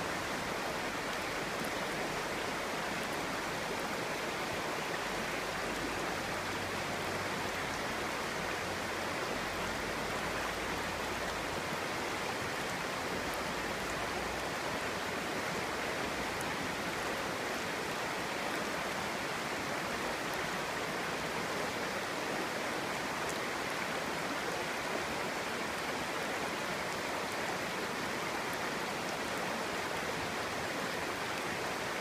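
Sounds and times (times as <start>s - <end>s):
stream flowing over rocks: 0.0s - 32.0s.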